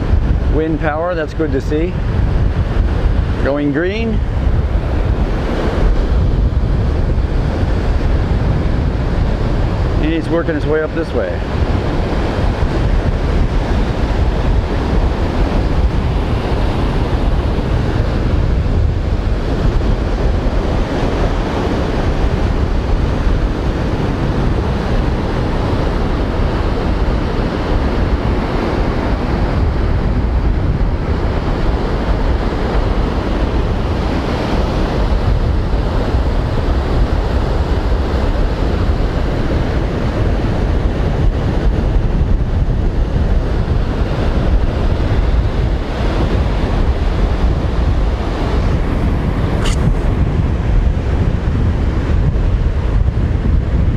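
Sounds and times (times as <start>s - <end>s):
surf breaking on beach: 0.0s - 53.9s
wind buffeting microphone: 0.0s - 53.9s.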